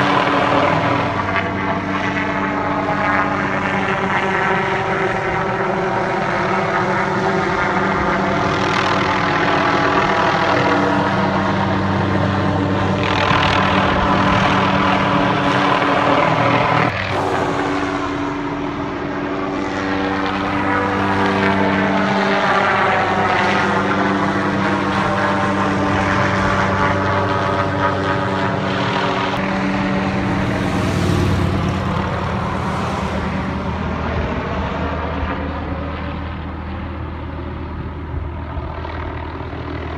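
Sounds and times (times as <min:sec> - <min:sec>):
helicopter flying overhead: 0:00.0 - 0:39.9.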